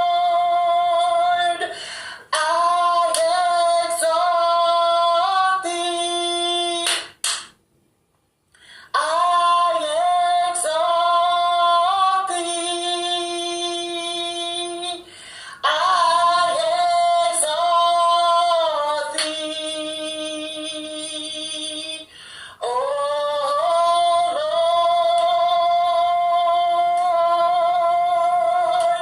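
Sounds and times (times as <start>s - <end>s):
woman singing worship song: 0.0s - 7.6s, 8.6s - 29.0s.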